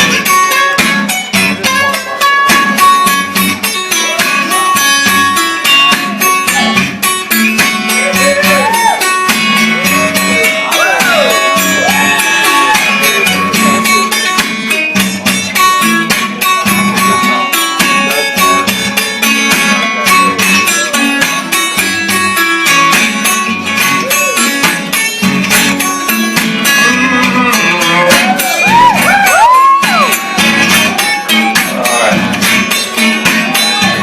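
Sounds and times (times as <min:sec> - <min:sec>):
guitar strummed and picked: 0:00.0 - 0:34.0.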